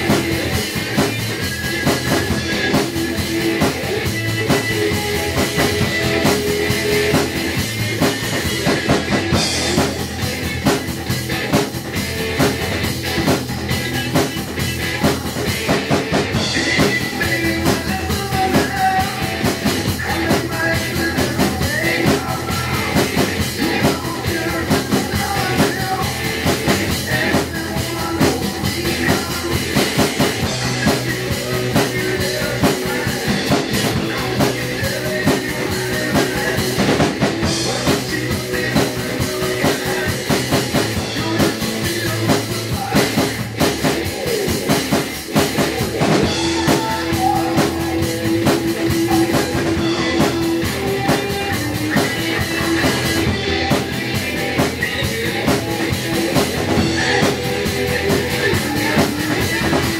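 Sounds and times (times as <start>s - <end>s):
drum kit played live: 0.0s - 59.9s
rock music with electric guitar: 0.0s - 59.9s.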